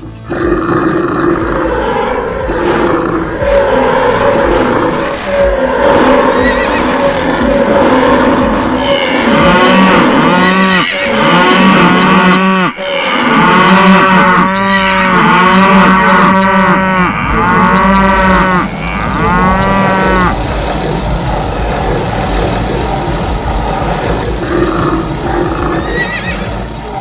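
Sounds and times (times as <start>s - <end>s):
low steady rumble: 0.0s - 10.7s, 15.0s - 27.0s
cattle mooing: 0.0s - 26.7s.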